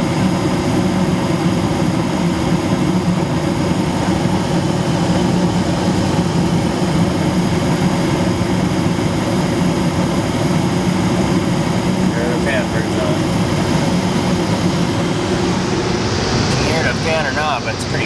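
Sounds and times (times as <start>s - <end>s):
furnace fan hum: 0.0s - 18.0s.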